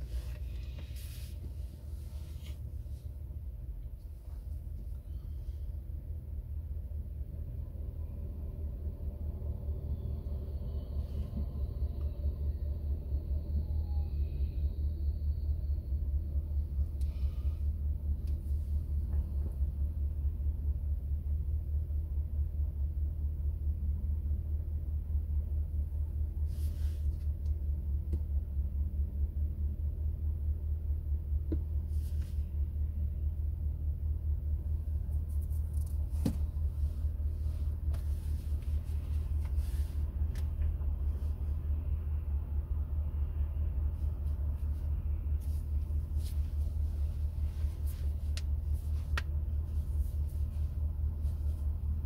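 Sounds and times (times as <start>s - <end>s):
car engine idling rumble: 0.0s - 52.0s.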